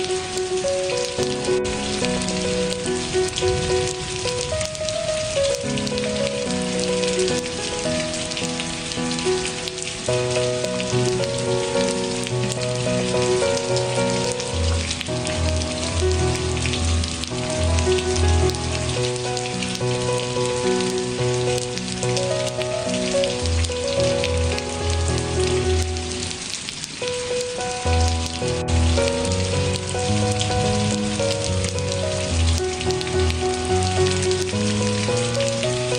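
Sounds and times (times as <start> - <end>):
rain pattering: 0.0 - 35.9
soft ambient music: 0.0 - 35.9.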